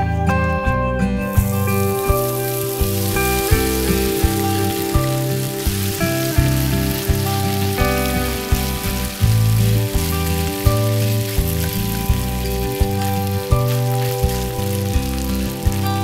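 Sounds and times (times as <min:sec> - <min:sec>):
background music with bass line: 0:00.0 - 0:16.0
vegetables sizzling in oil: 0:01.3 - 0:16.0.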